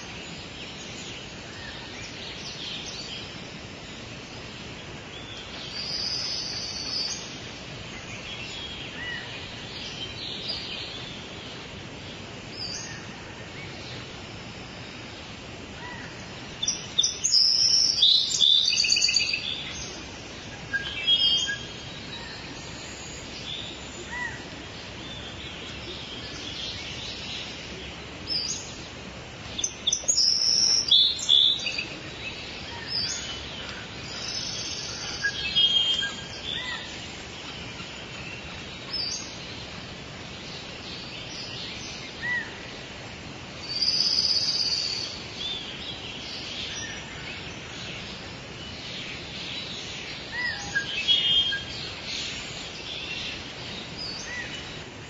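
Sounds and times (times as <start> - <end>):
birds chirping and calling: 0.0 - 11.7, 15.8 - 42.9, 43.6 - 55.0
background hiss: 0.0 - 55.0.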